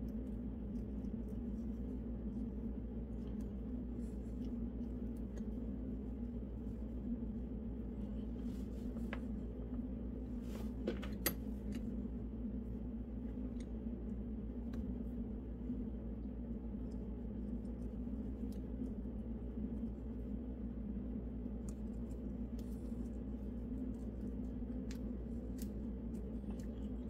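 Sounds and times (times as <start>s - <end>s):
low background hum: 0.0s - 27.0s
wires being twisted by hand: 0.0s - 27.0s.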